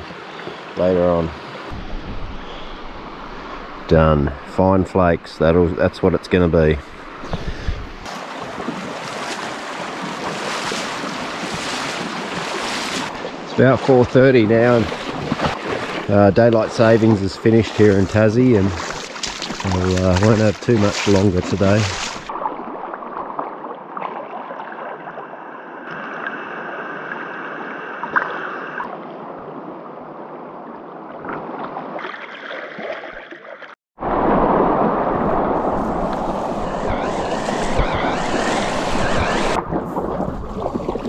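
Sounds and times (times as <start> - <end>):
rushing river water: 6.6 - 41.0.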